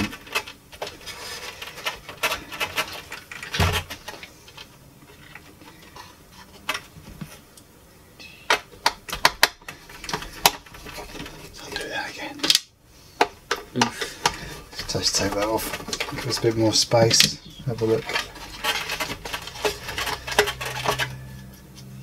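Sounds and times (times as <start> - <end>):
clicks and knocks of handling plastic: 0.0 - 7.4, 8.5 - 21.9.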